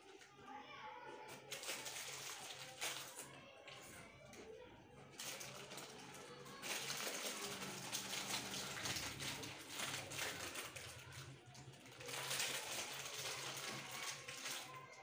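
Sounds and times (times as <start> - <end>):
crisps crunching: 1.3 - 3.9, 5.0 - 15.0
plastic wrappers crinkling: 1.3 - 4.4, 5.0 - 15.0.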